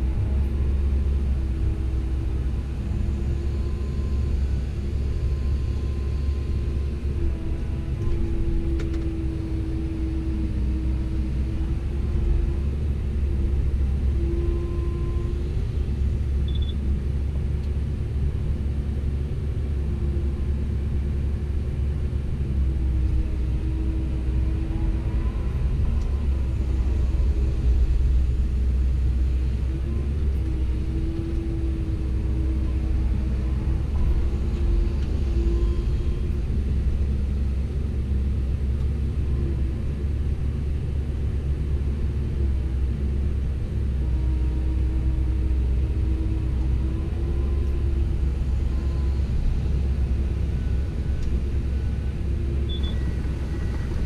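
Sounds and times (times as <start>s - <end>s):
excavator diesel engine rumble: 0.0s - 54.0s.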